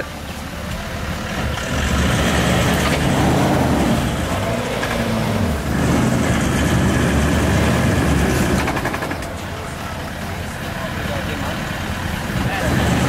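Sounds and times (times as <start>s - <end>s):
car engine revving under load: 0.2s - 13.0s.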